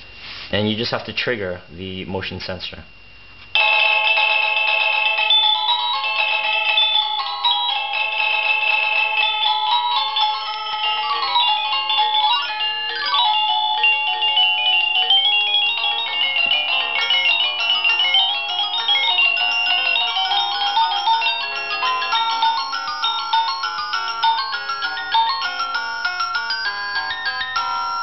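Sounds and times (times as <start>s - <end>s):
doorbell chime melody: 3.6s - 28.0s.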